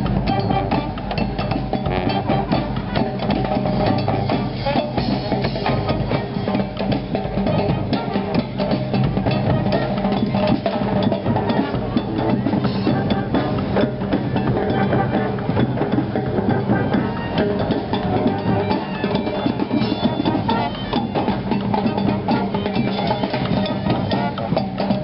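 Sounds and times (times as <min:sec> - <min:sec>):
drums and hand percussion: 0:00.0 - 0:25.0.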